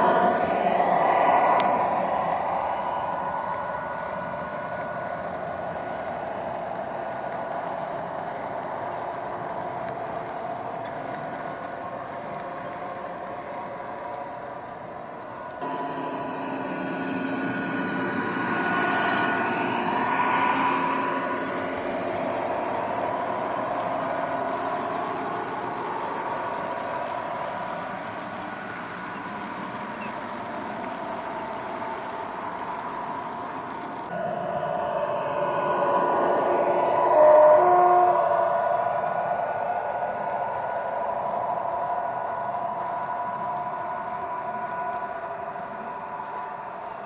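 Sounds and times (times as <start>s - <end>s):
model train humming: 9.1s - 47.0s.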